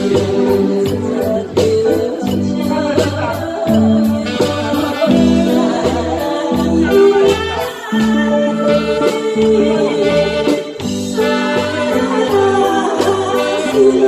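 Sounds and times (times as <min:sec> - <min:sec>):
karaoke backing track: 0:00.0 - 0:14.0
woman singing: 0:00.0 - 0:14.0.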